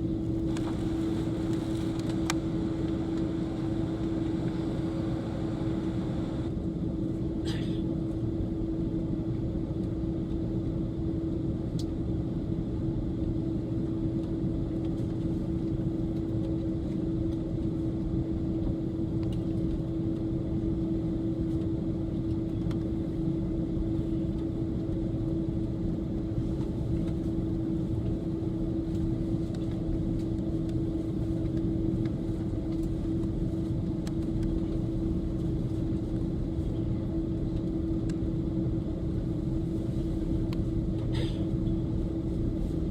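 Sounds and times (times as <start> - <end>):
airliner cabin engine rumble: 0.0 - 42.9
constant hum: 0.0 - 42.9.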